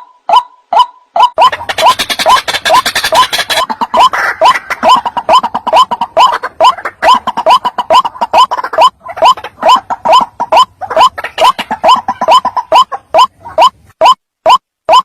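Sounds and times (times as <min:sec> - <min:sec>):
waterhen call: 0:00.0 - 0:15.0.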